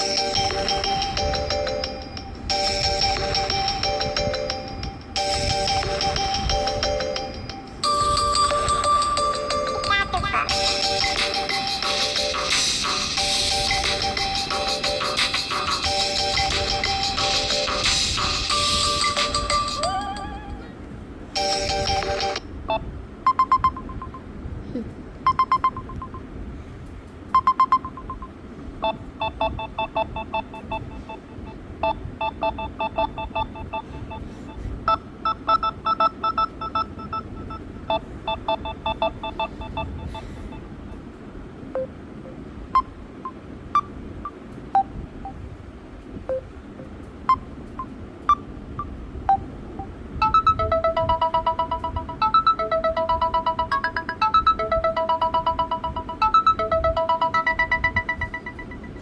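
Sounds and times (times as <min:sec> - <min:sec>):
electronic ringtone beeps: 0:00.0 - 0:20.5, 0:21.4 - 0:24.2, 0:25.2 - 0:26.2, 0:27.3 - 0:40.7, 0:41.8 - 0:45.4, 0:46.3 - 0:59.0.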